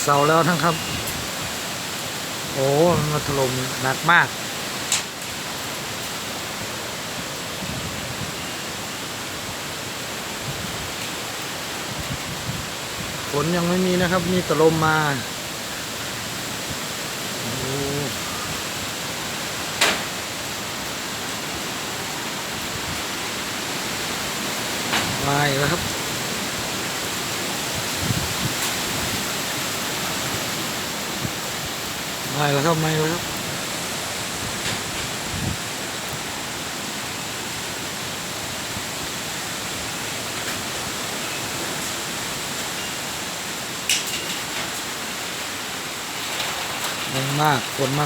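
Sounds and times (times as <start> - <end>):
strong storm wind blowing: 0.0 - 4.9, 6.6 - 42.6.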